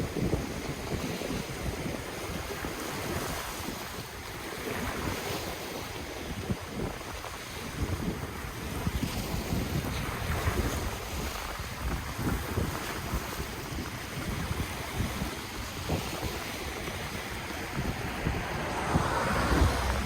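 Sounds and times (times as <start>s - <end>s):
ocean waves washing onto shore: 0.0s - 20.0s
wind rumbling on microphone: 0.0s - 20.0s.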